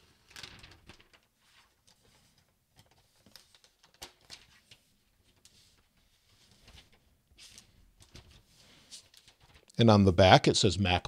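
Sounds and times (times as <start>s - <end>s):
paper wrap rustling: 0.2s - 9.8s.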